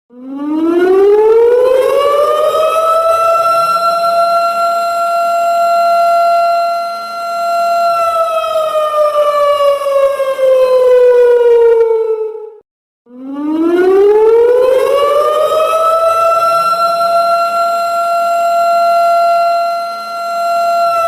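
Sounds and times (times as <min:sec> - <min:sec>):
siren alarm wail: 0:00.1 - 0:21.0.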